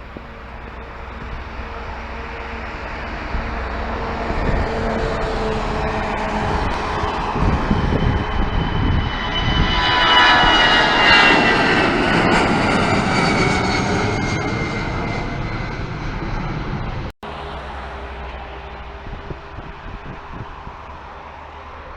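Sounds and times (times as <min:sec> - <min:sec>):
airliner engines passing: 0:00.0 - 0:21.9.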